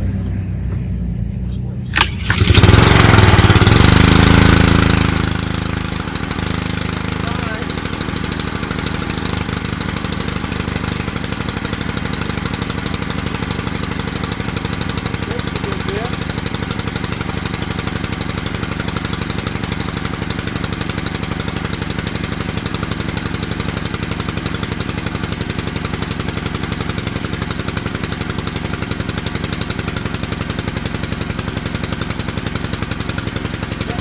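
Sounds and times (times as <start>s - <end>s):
small gas engine running: 1.9s - 34.0s.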